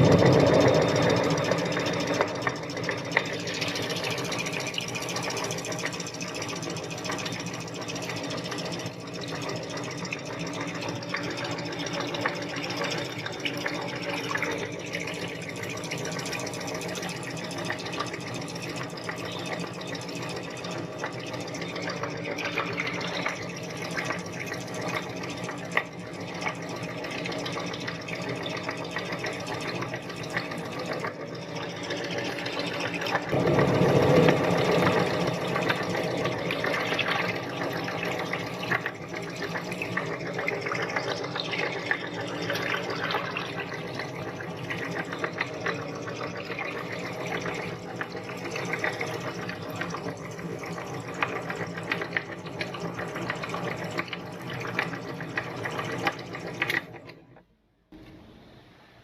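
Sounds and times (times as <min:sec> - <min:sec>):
electric meat grinder motor: 0:00.0 - 0:57.0.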